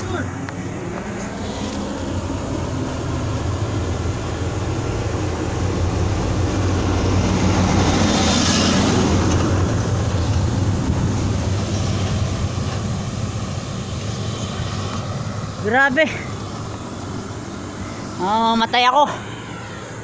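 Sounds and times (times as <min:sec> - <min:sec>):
truck driving past: 0:00.0 - 0:20.0.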